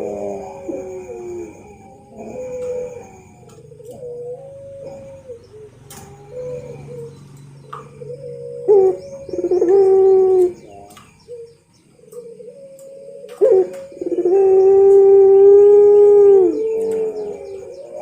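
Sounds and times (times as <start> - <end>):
dove cooing: 0.0 - 18.0
small birds chirping faintly: 0.0 - 18.0.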